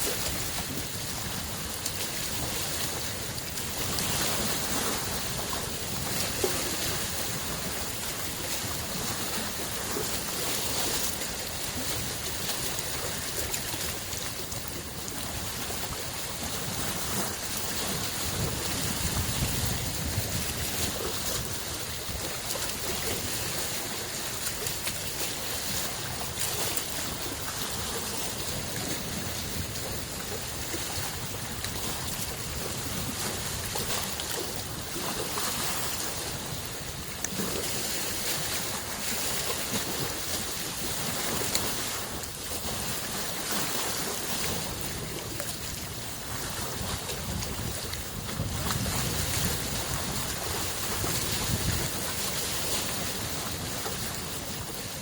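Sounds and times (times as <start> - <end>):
lake waves lapping at shore: 0.0 - 55.0.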